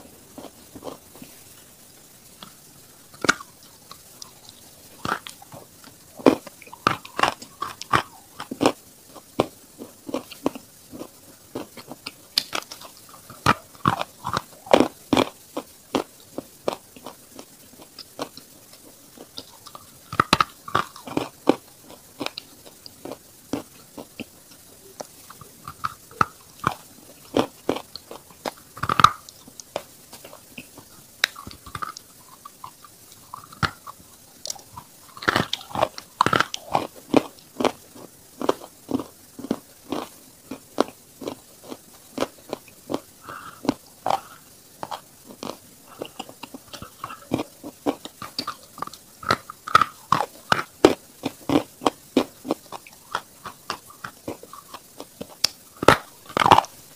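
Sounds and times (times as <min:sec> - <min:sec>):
grinding chews: 0:00.0 - 0:01.6, 0:02.3 - 0:56.9.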